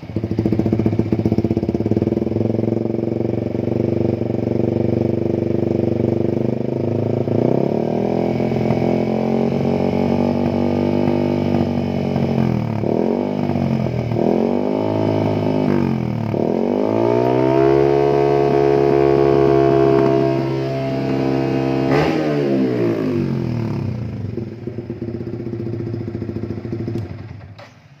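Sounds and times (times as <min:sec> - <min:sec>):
motorcycle engine revving: 0:00.0 - 0:27.8.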